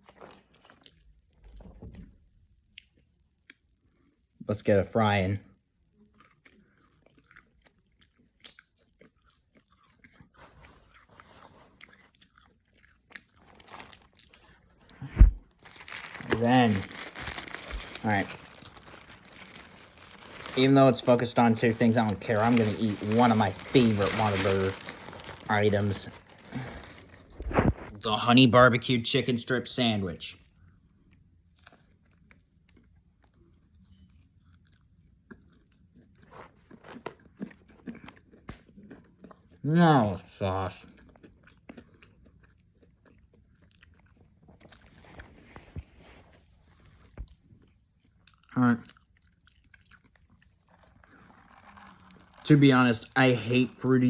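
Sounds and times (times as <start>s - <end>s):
chewing french fry: 0.0s - 1.3s, 5.9s - 27.9s, 30.4s - 45.7s, 46.8s - 53.1s.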